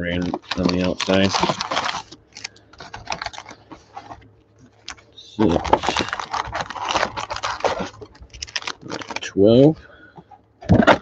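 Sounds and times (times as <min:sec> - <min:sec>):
foil card packs crinkling: 0:00.0 - 0:11.0.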